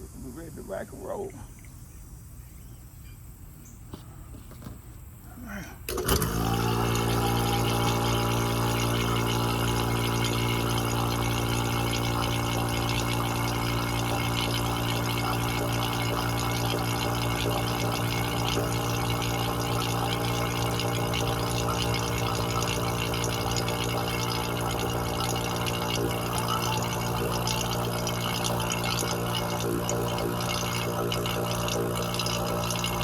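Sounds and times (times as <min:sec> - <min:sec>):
vacuum pump motor hum: 0:05.4 - 0:33.0.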